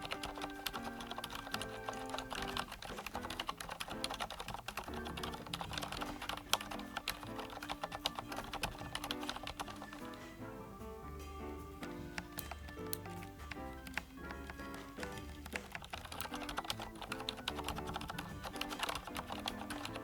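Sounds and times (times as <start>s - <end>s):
mechanical keyboard clicks: 0.0s - 10.2s, 11.8s - 20.0s
background music: 0.0s - 20.0s.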